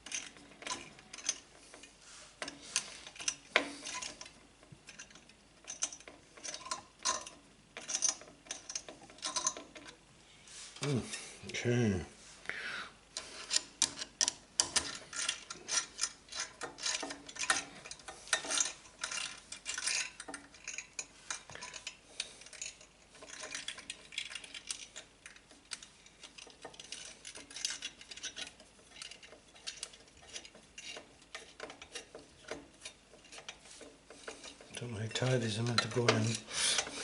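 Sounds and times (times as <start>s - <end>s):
metal screws clicking and rattling: 0.0s - 10.0s, 13.2s - 37.0s.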